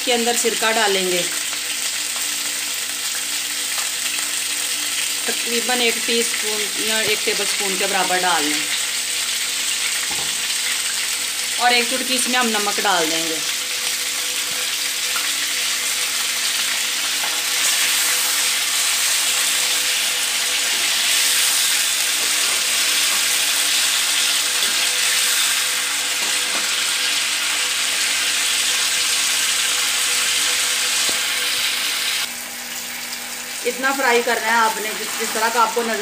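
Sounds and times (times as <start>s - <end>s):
chicken sizzling in a wok: 0.0s - 36.0s.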